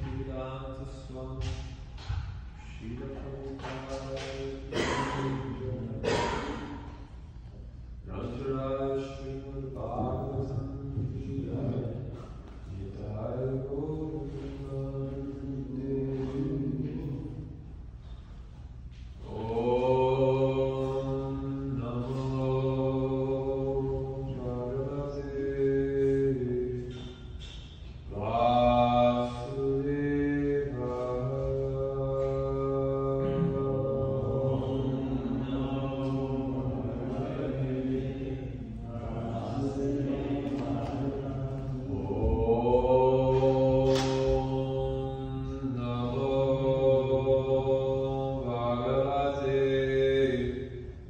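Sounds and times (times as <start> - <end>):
person chanting in held notes: 2.6 - 6.9, 8.0 - 17.5, 19.2 - 51.0.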